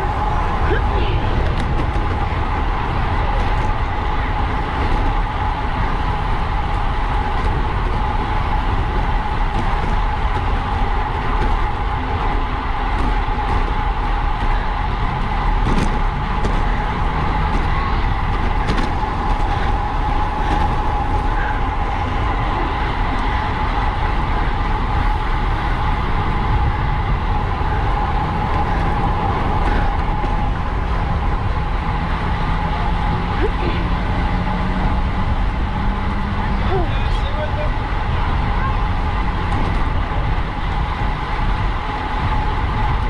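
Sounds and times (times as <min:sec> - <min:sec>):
bicycle ticking: 0:00.0 - 0:43.0
wind roaring over microphone: 0:00.0 - 0:43.0.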